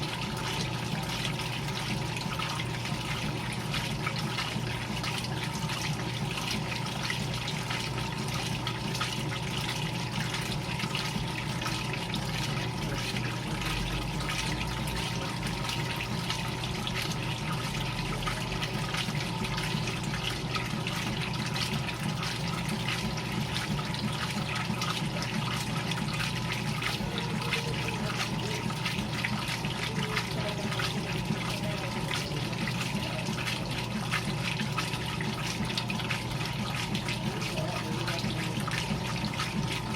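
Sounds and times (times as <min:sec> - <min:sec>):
water churning in washing machine: 0:00.0 - 0:39.9.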